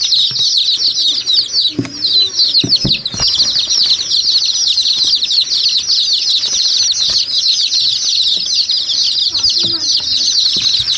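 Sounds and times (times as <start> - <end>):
flock of small birds chirping: 0.0 - 10.9.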